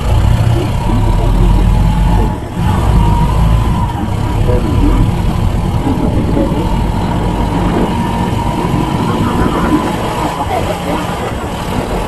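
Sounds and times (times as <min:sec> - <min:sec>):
motorbike engine rumbling: 0:00.0 - 0:12.0
road noise: 0:00.0 - 0:12.0.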